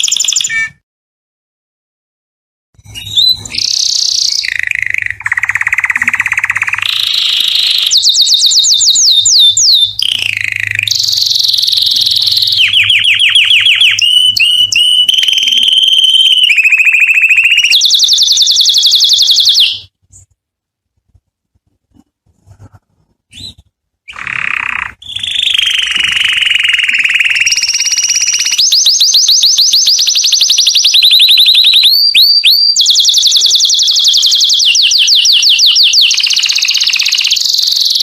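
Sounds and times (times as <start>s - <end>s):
canary singing trills: 2.8s - 20.3s, 23.3s - 38.0s.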